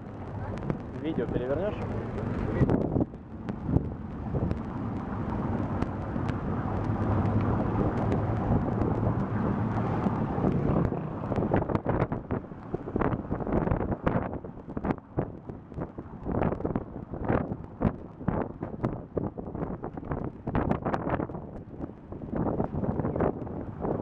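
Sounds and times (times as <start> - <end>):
vehicle engine and road noise: 0.0 - 24.0
wind buffeting microphone: 0.0 - 24.0.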